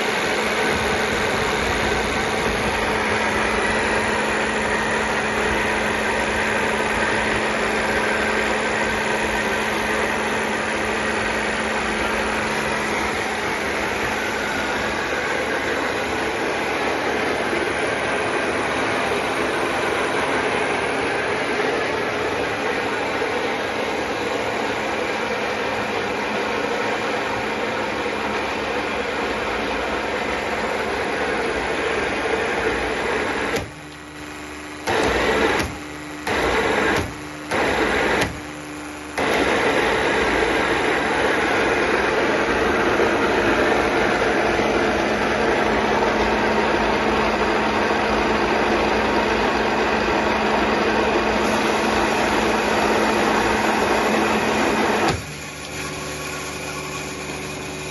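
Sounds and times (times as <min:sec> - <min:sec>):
plunger pump humming: 0:00.0 - 0:57.9.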